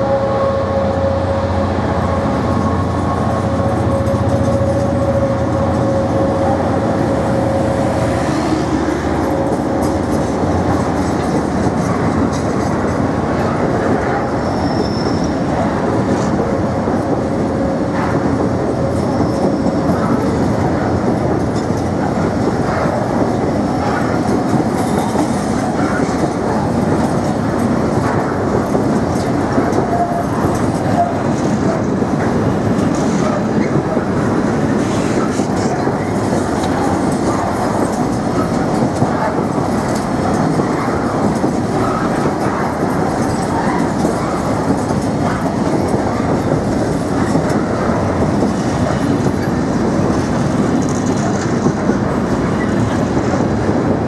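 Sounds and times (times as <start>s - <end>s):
train wheels rumbling on rail: 0.0s - 54.0s
wheels clattering over rail joints: 2.0s - 54.0s.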